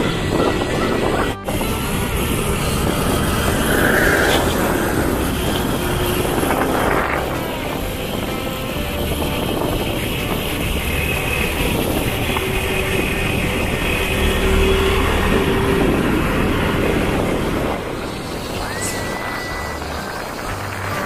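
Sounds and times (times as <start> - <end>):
motorcycle engine running: 0.0 - 18.2
wind rush on microphone: 0.0 - 21.0.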